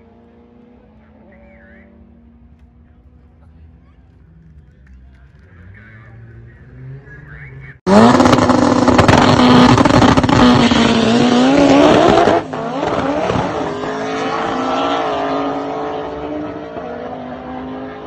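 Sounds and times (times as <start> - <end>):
drag car engine accelerating: 0.0 - 18.0.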